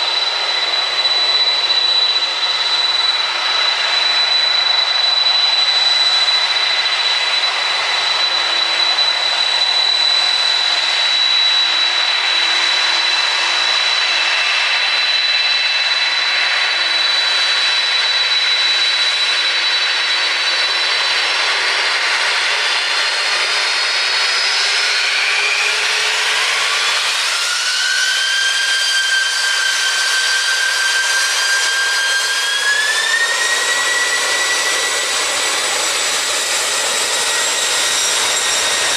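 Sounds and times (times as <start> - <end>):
jet engines whining and roaring: 0.0 - 38.9.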